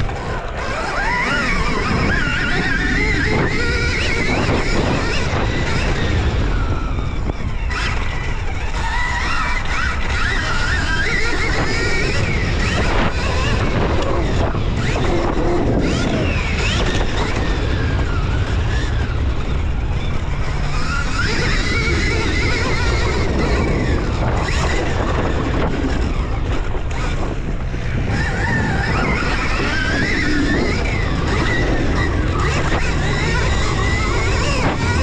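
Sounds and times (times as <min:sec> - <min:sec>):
dirt bike engine: 0:00.0 - 0:35.0
wind on microphone: 0:00.0 - 0:35.0.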